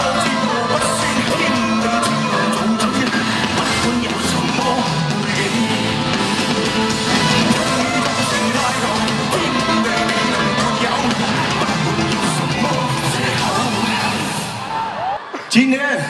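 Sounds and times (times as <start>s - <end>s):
live rock band playing: 0.0s - 14.6s
person singing: 0.0s - 16.0s.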